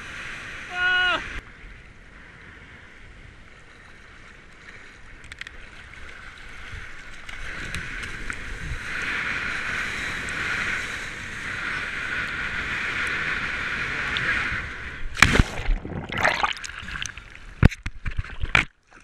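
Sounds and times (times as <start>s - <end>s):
water rushing along surfboard: 0.0s - 18.7s.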